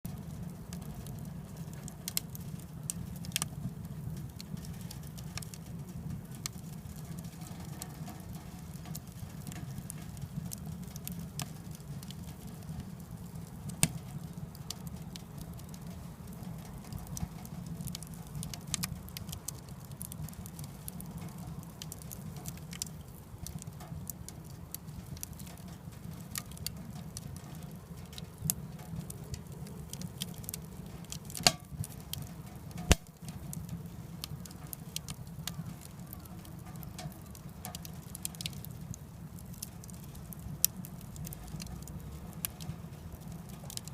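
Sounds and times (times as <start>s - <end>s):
firewood crackling and popping: 0.1s - 43.9s
wood stove low rumble: 0.1s - 43.9s.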